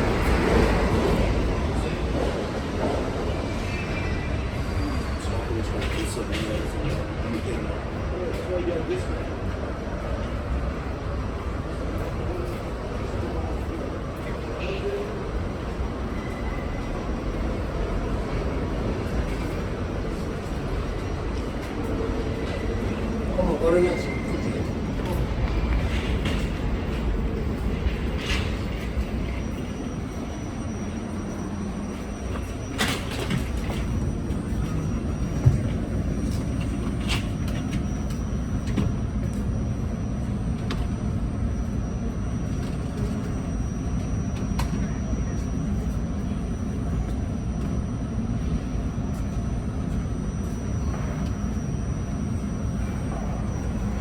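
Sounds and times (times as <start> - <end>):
subway car running on track: 0.0 - 54.0.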